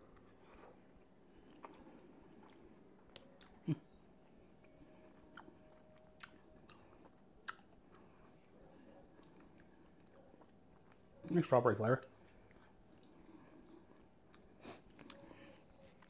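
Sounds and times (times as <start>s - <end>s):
chewing gummy candy: 0.1s - 16.0s.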